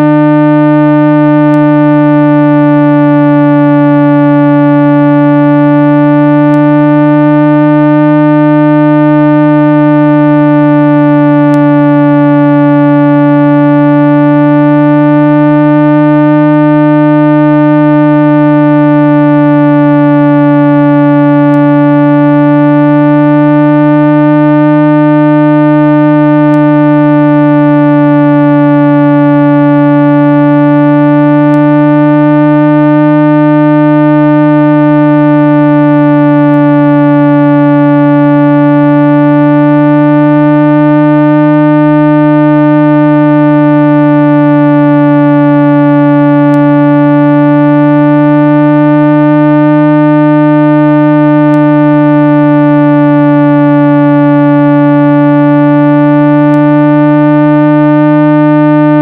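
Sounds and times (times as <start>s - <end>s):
synthesized tone with overtones: 0.0s - 59.0s.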